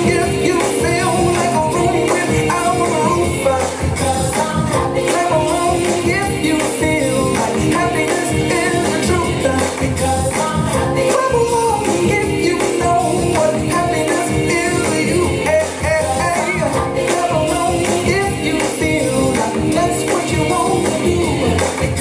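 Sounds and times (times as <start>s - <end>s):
pop song with singing: 0.0s - 22.0s.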